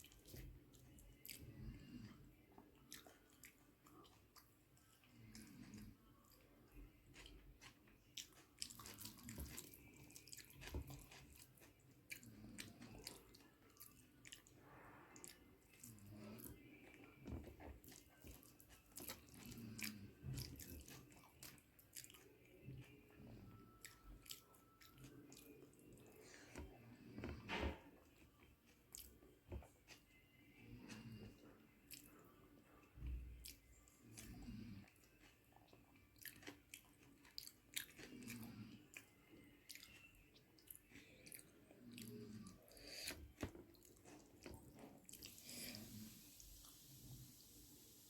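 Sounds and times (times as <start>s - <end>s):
close chewing of food: 0.0s - 48.0s.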